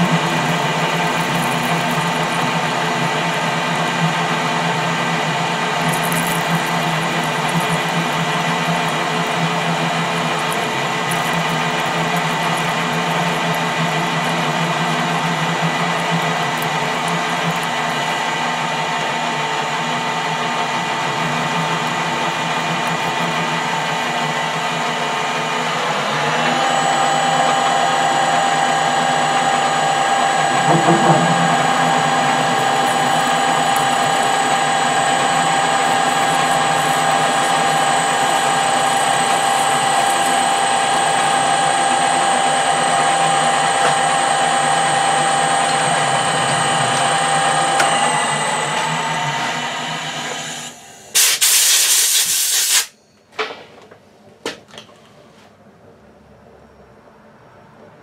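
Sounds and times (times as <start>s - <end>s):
metal lathe motor and gear whine: 0.0s - 51.2s.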